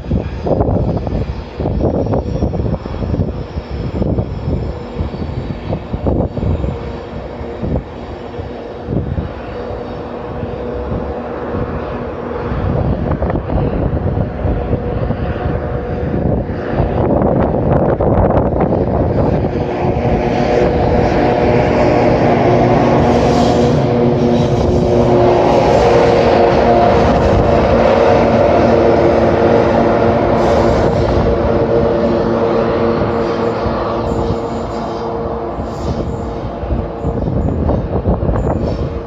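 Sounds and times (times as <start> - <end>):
diesel locomotive engine working hard: 0.0 - 39.0
locomotive cooling fans: 0.0 - 39.0
steady machine whine: 0.0 - 39.0.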